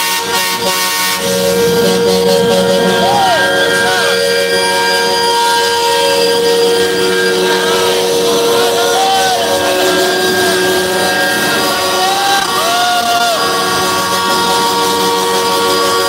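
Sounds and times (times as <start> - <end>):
crowd voices: 0.0 - 16.0
truck air horns blaring: 0.0 - 16.0.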